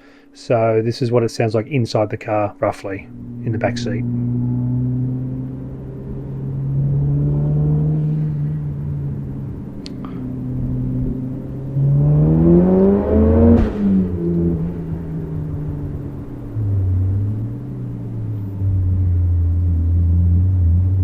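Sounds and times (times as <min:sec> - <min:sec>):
car engine revving from inside: 0:03.0 - 0:21.0.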